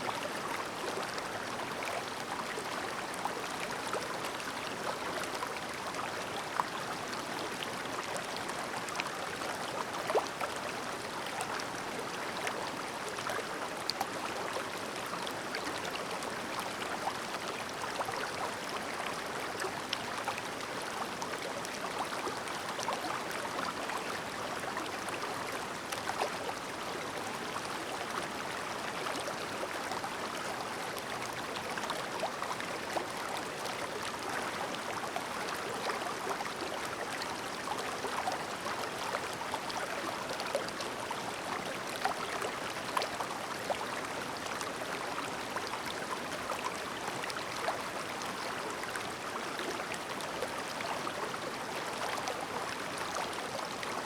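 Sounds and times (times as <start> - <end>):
stream babbling: 0.1 - 54.0.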